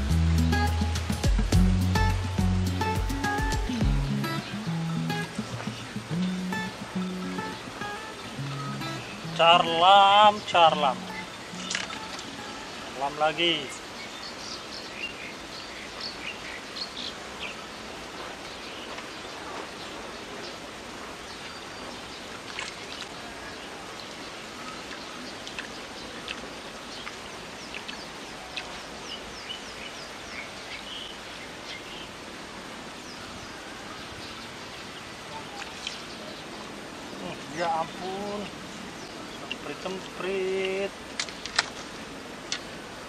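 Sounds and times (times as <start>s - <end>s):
outdoor background noise: 0.0s - 43.0s
small birds chirping: 1.0s - 43.0s.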